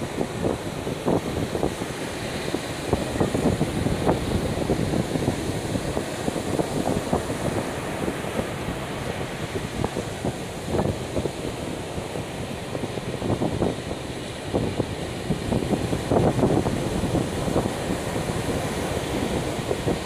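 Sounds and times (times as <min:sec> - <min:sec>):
ocean surf: 0:00.0 - 0:20.0
wind buffeting microphone: 0:00.0 - 0:20.0.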